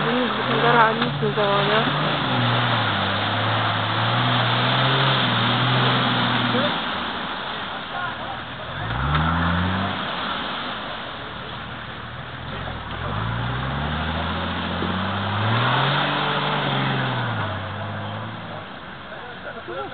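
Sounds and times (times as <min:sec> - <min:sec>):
off-road engine revving: 0:00.0 - 0:19.6
water and mud hissing: 0:00.0 - 0:19.9.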